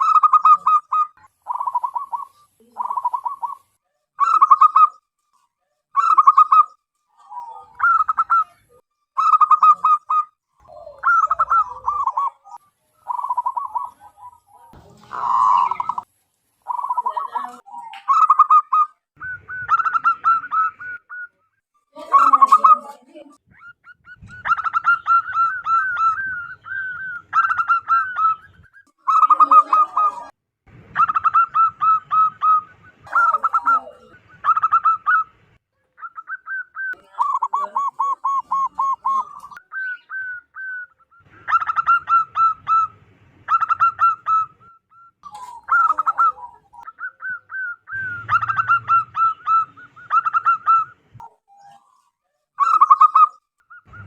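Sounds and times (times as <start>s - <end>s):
dove cooing: 0.0s - 5.0s, 6.0s - 21.4s, 22.0s - 30.3s, 30.9s - 54.0s.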